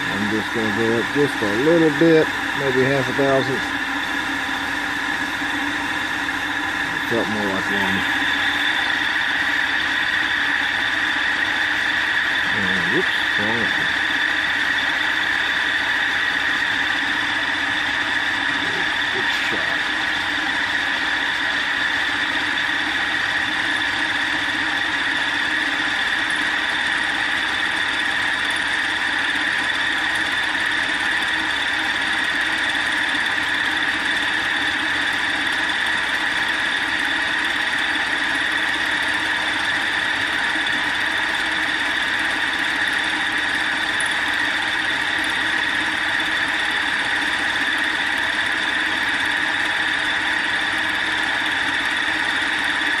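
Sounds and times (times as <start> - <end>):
milling machine whining: 0.0 - 53.0.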